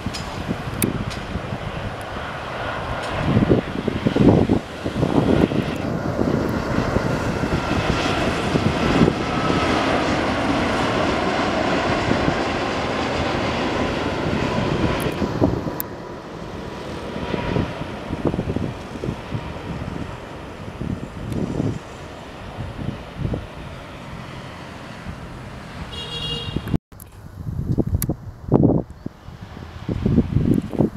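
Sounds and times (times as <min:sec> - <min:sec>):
jet airliner passing overhead: 0:00.0 - 0:26.8, 0:28.0 - 0:30.9.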